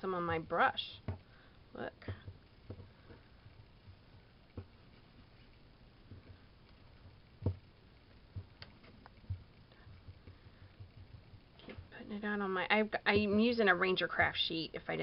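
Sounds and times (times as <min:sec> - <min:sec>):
faint taps and handling noises: 0:01.0 - 0:01.3, 0:02.0 - 0:12.3, 0:12.9 - 0:14.4.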